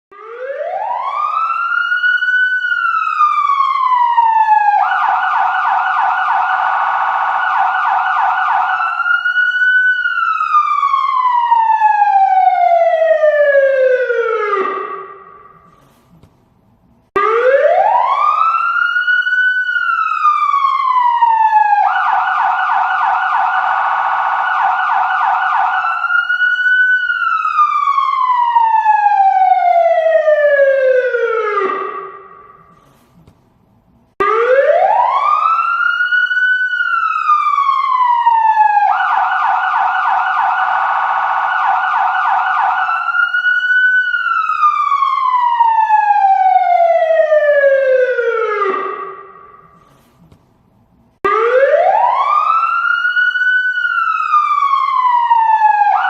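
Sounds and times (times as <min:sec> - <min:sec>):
police siren wailing: 0:00.1 - 0:15.9, 0:17.2 - 0:32.9, 0:34.2 - 0:49.9, 0:51.2 - 0:56.0.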